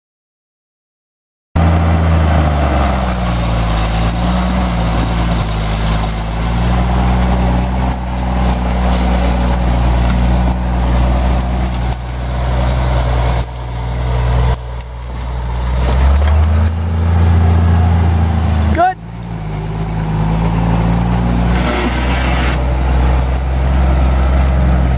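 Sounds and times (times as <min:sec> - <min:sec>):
tractor engine running: 0:01.6 - 0:24.9.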